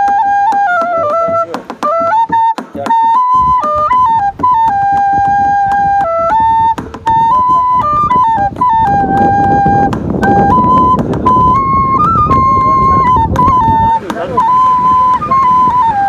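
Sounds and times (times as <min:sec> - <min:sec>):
slow flute melody: 0:00.0 - 0:16.0.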